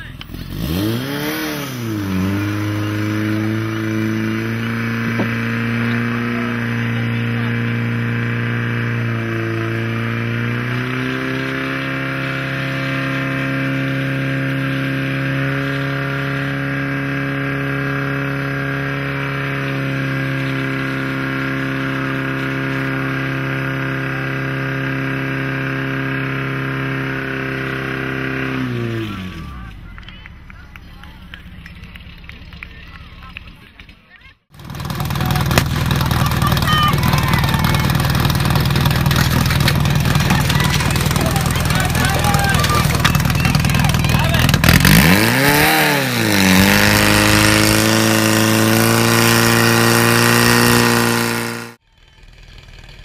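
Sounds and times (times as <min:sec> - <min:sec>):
pump engine droning: 0:00.0 - 0:53.0.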